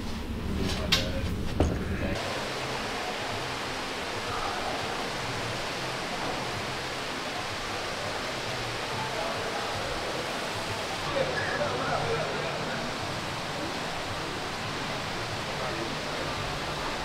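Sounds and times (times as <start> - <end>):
rushing outdoor ambience hiss: 0.0 - 17.0.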